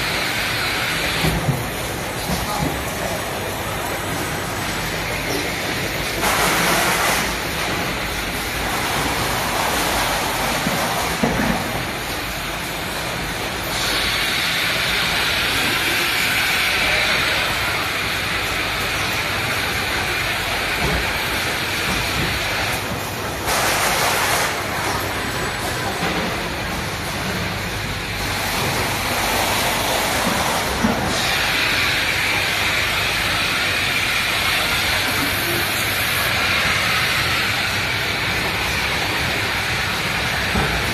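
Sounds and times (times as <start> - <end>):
factory machinery drone: 0.0 - 40.9.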